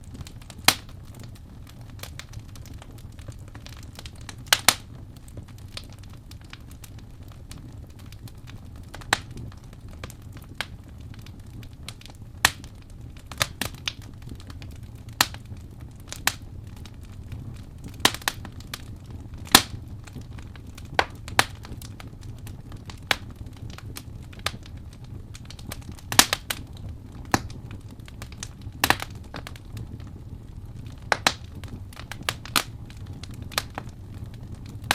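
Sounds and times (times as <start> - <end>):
fire crackling pops: 0.0 - 34.9
low rumble of flames: 0.0 - 34.9.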